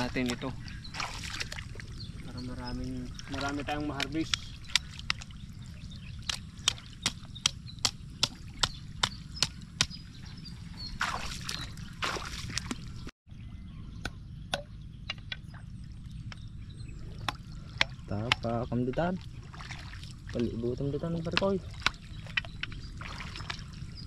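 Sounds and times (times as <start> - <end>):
water sloshing in a pond: 0.0 - 13.1, 15.3 - 24.0.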